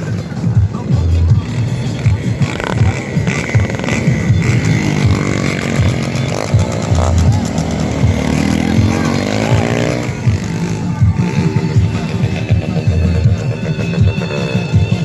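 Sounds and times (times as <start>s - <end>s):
motorcycle engine revving: 0.0s - 15.0s
music with thumping beat: 0.0s - 15.0s.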